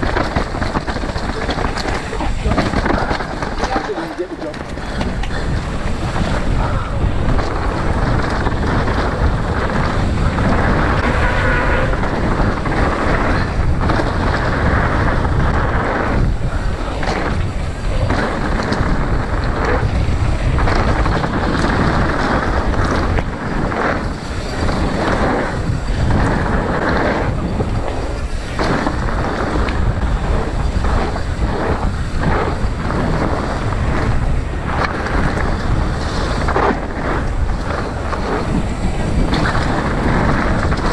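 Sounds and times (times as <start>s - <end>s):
bike tyres rumbling on dirt: 0.0s - 40.9s
wind buffeting microphone: 0.0s - 40.9s.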